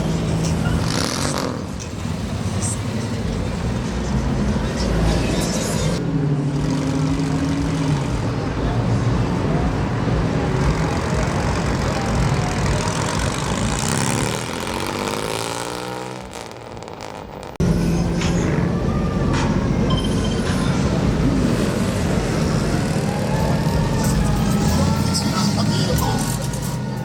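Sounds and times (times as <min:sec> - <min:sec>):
cars driving past: 0:00.0 - 0:27.0.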